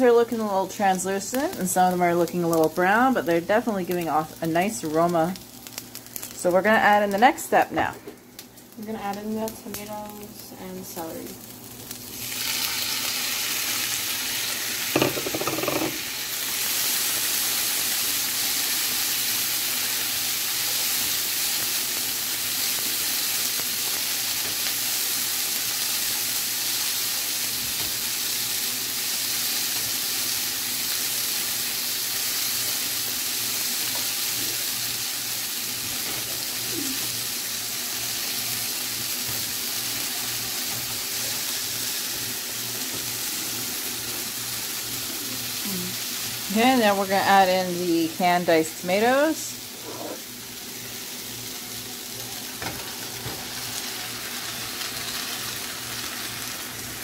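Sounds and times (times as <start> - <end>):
food sizzling in a frying pan: 0.0 - 57.0.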